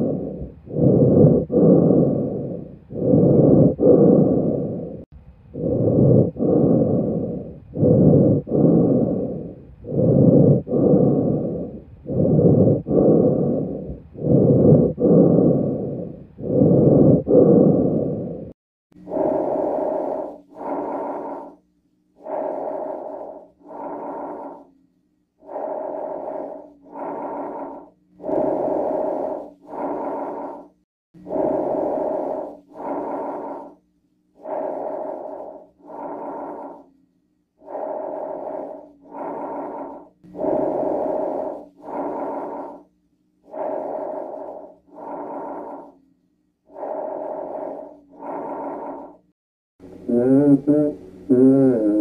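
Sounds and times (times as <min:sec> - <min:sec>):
breathing through stethoscope: 0:00.0 - 0:24.8, 0:25.4 - 0:52.0.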